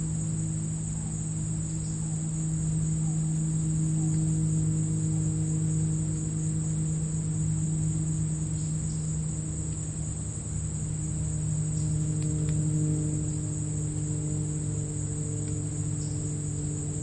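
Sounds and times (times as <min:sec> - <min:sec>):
crickets chirping: 0:00.0 - 0:17.0
low steady hum: 0:00.0 - 0:17.0.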